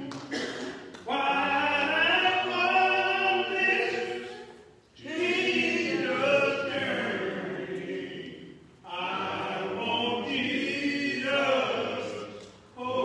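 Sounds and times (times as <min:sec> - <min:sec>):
voices singing a hymn: 0:00.0 - 0:13.0
man leading hymn singing: 0:01.0 - 0:13.0.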